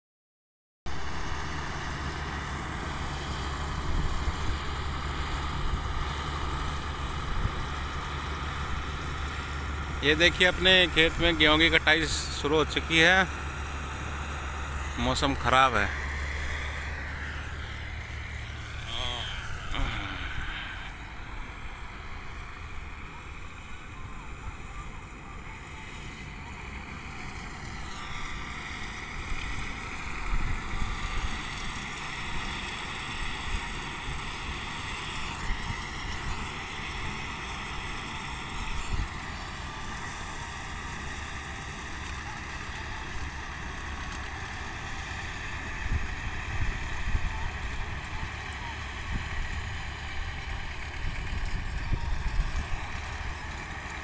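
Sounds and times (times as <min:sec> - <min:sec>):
combine harvester drone: 0:00.9 - 0:54.0.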